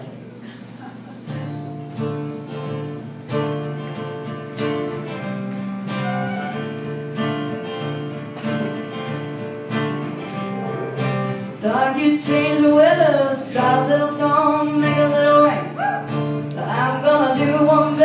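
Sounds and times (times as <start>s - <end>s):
acoustic guitar strumming: 1.2s - 18.0s.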